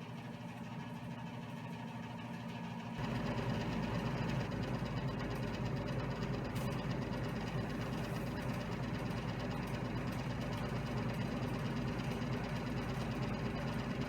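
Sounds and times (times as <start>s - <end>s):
small motor humming and rattling: 0.0s - 14.0s.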